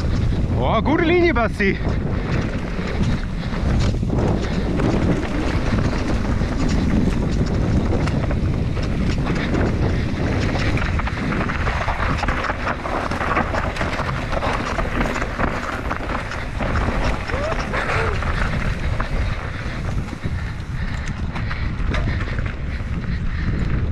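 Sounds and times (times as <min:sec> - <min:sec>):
bike rattling over rough ground: 0:00.0 - 0:23.9
tyres rushing on dirt: 0:00.0 - 0:23.9
wind buffeting microphone: 0:00.0 - 0:23.9.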